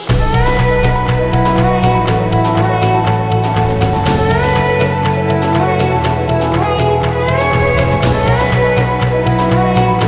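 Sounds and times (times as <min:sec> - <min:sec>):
melodic music with bass and beat: 0:00.0 - 0:10.0.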